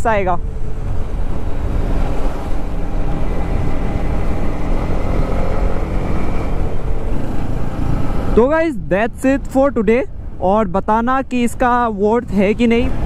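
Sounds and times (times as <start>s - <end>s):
motorcycle engine hum: 0.0s - 13.0s
wind rushing on microphone: 0.0s - 13.0s.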